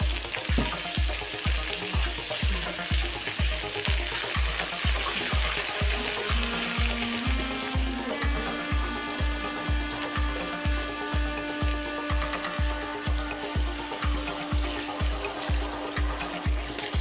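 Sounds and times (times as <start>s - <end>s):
background music with bass beat: 0.0s - 17.0s
eel frying in oil: 0.0s - 17.0s.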